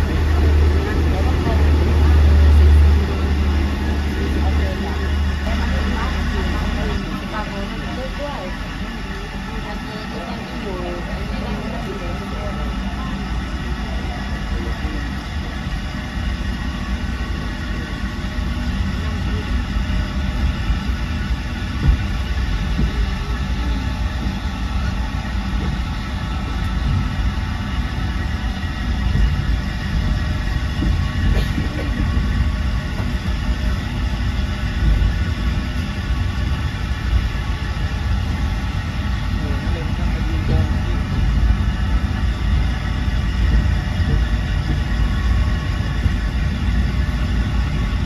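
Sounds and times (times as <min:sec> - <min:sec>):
train wheels rumbling on track: 0:00.0 - 0:48.0.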